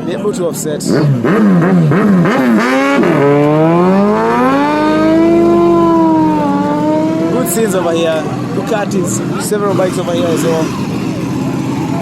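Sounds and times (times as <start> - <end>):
motorcycle engine revving: 0.8 - 12.0.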